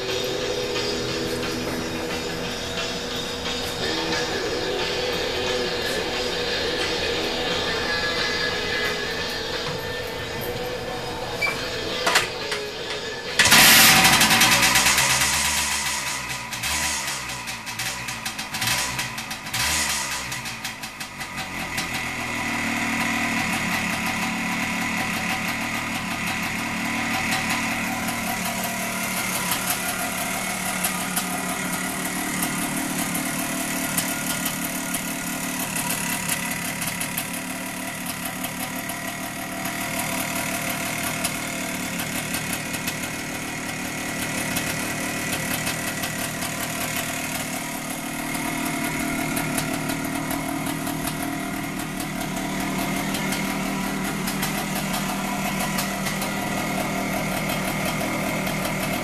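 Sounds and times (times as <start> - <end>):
two-stroke engine idling: 0.0 - 59.0.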